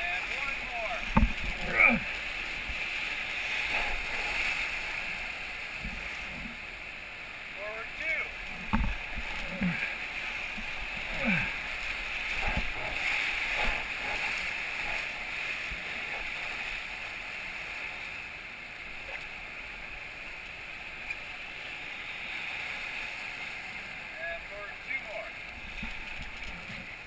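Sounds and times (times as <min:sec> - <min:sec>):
whitewater rapids rushing: 0:00.0 - 0:26.2
paddle strokes splashing: 0:00.0 - 0:27.0.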